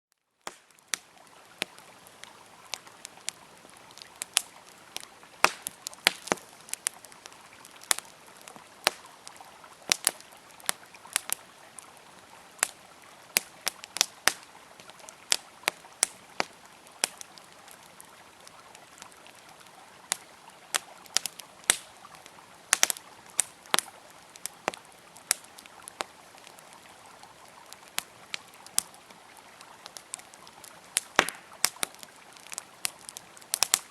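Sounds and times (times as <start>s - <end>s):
campfire crackling and popping: 0.1s - 33.9s
river flowing: 0.4s - 33.9s.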